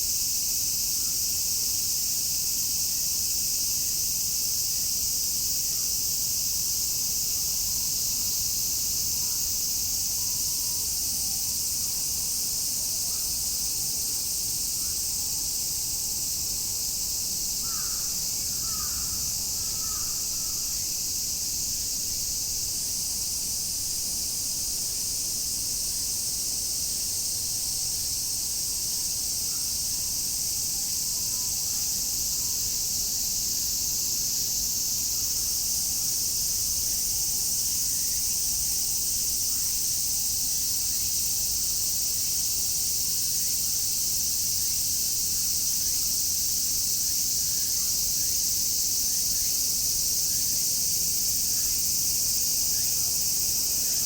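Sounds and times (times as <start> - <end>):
cicadas shrilling: 0.0 - 54.0.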